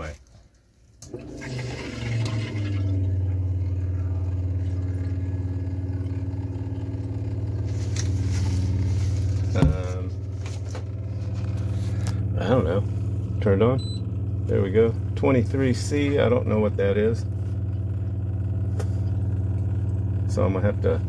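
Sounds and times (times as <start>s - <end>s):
water pump motor humming: 0.0s - 21.0s.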